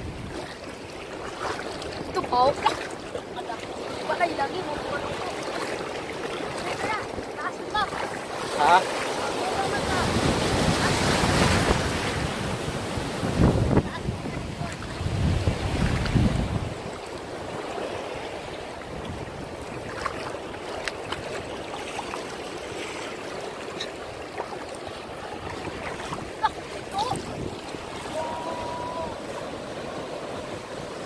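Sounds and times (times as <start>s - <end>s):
water washing over rocks: 0.0s - 31.0s
surf breaking: 0.8s - 23.2s, 24.4s - 31.0s.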